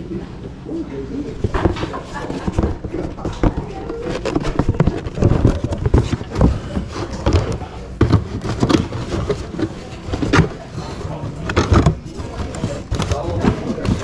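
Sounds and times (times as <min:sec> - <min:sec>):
indistinct voices: 0:00.0 - 0:14.0
cardboard boxes being handled: 0:01.3 - 0:14.0.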